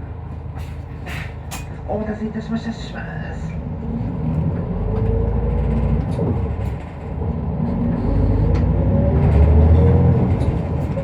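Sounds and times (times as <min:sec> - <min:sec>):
bus diesel engine accelerating: 0:00.0 - 0:11.0.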